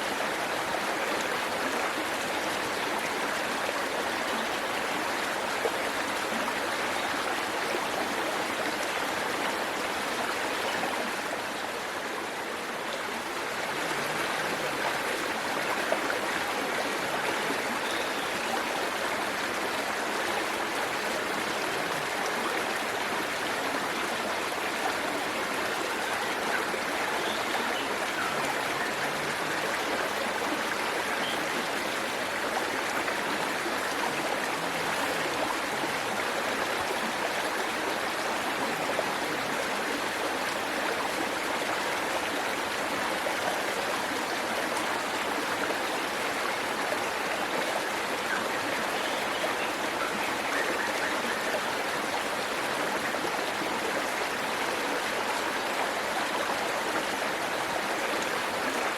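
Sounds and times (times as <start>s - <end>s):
waterfall rushing and splashing: 0.0s - 58.9s.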